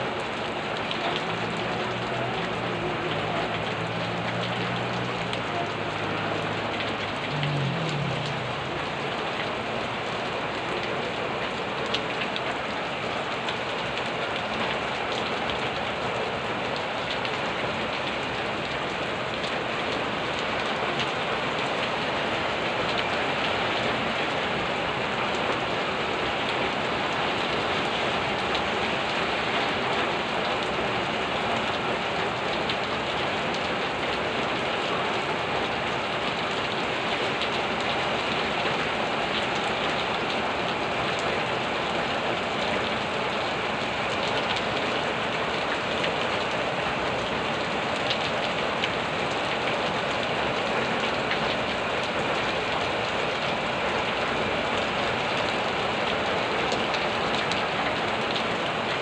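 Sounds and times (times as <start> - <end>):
heavy rain on roofs: 0.0 - 59.0.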